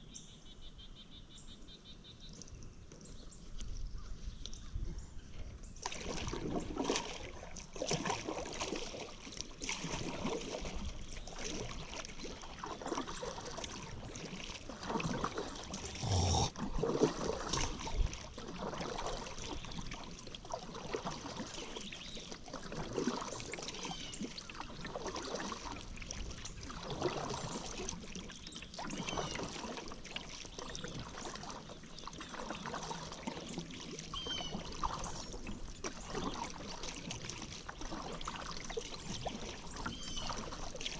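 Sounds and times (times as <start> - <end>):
paddle strokes in water: 2.2 - 40.9
water trickling off paddle: 2.2 - 40.9.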